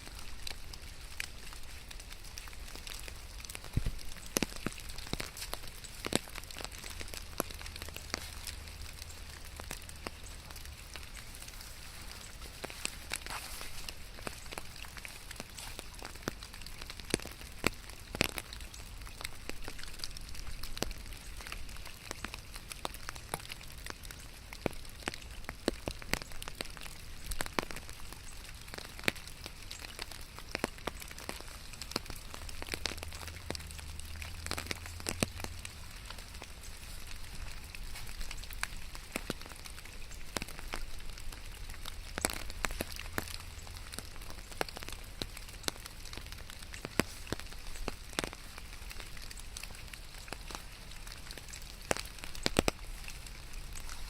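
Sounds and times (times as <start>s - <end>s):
rain falling: 0.0s - 54.0s
sharp raindrops striking close: 0.0s - 54.0s.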